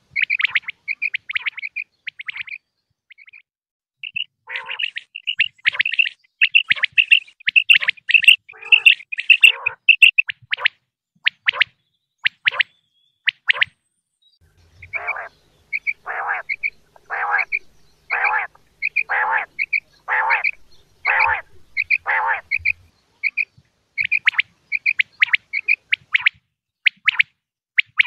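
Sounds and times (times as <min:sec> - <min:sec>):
quail calling: 0:00.0 - 0:03.4, 0:04.0 - 0:10.7, 0:14.8 - 0:28.0.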